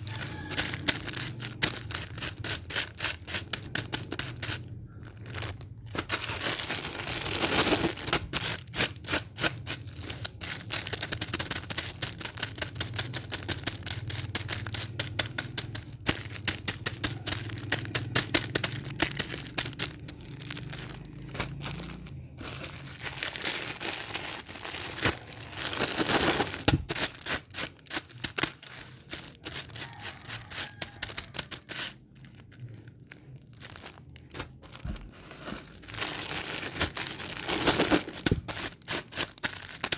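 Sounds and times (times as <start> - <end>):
dense irregular crackling: 0.0 - 39.9.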